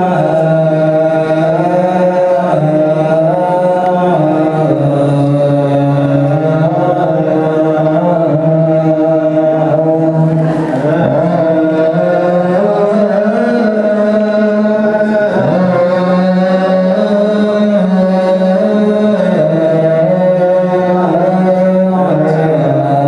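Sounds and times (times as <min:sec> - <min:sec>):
men chanting in long notes: 0:00.0 - 0:23.0.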